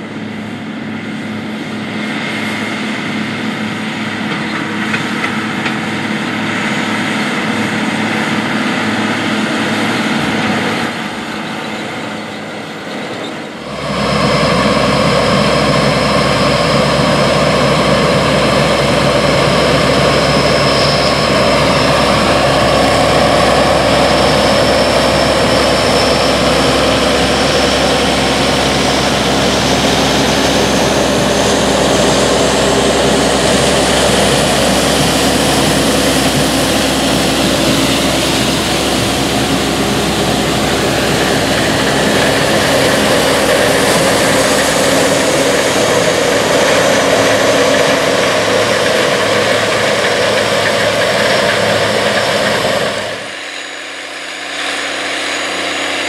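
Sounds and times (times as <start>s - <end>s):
loud steady machinery noise: 0.0s - 56.0s
tractor diesel engine running: 0.0s - 56.0s.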